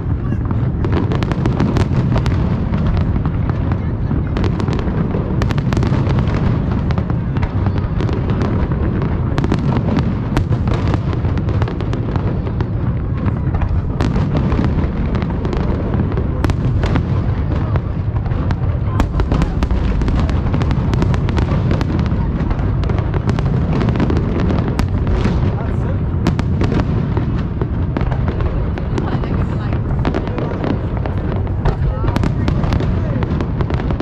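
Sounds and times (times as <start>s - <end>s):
fireworks crackling and popping: 0.0s - 34.0s
fireworks shells booming: 0.0s - 34.0s.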